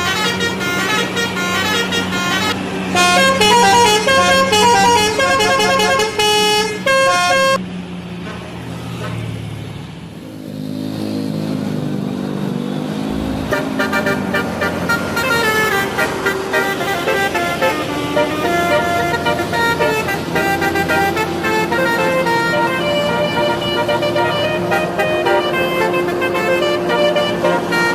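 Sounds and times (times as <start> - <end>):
multi-tone bus horn tune: 0.0 - 7.6, 12.9 - 27.9
bus engine running: 0.0 - 27.9.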